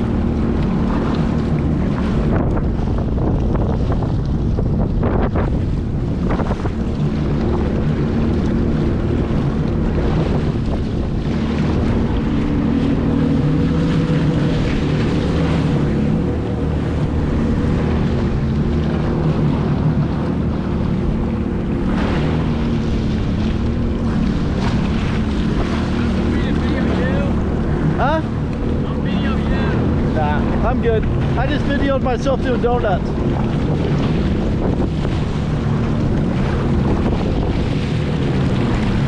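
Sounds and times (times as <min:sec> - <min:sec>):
jet ski engine running: 0:00.0 - 0:39.0
water splashing against hull: 0:00.0 - 0:39.0
wind buffeting microphone: 0:00.0 - 0:39.0.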